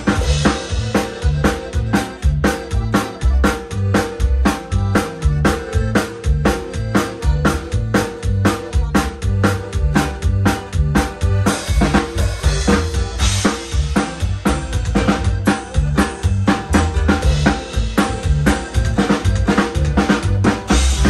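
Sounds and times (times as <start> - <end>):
band dance music: 0.0 - 21.0
bass line: 0.0 - 21.0
drum kit beat: 0.0 - 21.0.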